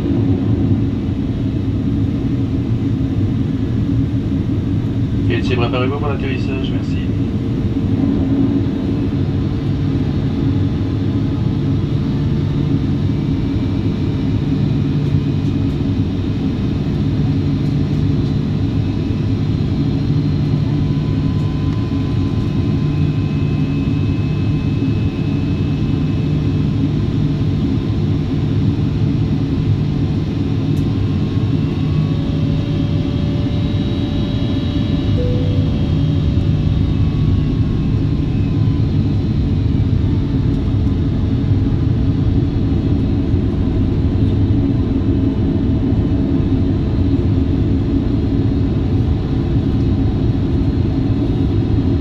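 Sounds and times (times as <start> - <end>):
airliner cabin engine noise: 0.0 - 52.0.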